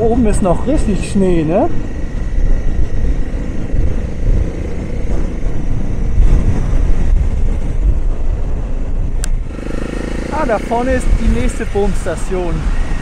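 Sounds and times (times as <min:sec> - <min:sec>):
motorcycle engine running: 0:00.0 - 0:13.0
wind and road noise rumble: 0:00.0 - 0:13.0.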